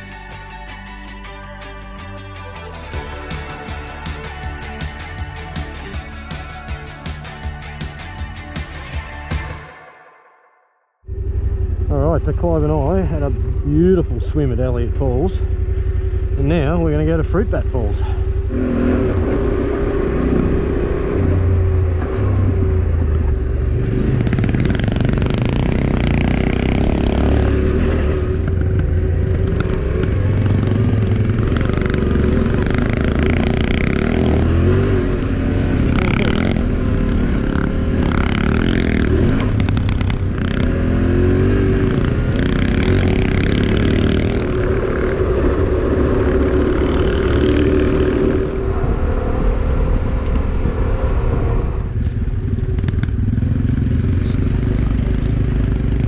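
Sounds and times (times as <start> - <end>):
motorcycle engine running: 2.4 - 9.8, 11.1 - 56.0
road and wind noise: 11.1 - 56.0.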